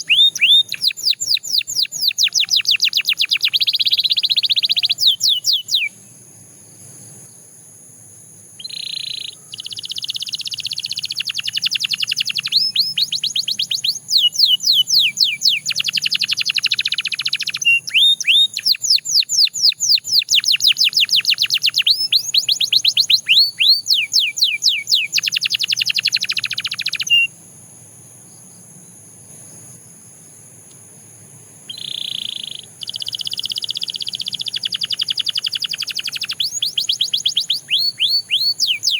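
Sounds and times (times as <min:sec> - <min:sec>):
canary singing trills: 0:00.0 - 0:06.0, 0:08.6 - 0:27.4, 0:31.7 - 0:38.9.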